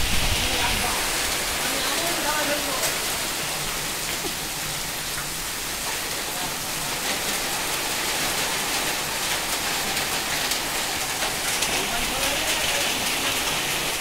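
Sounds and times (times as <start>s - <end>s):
heavy rain on a metal awning: 0.0s - 14.0s
raindrops ticking: 0.5s - 14.0s.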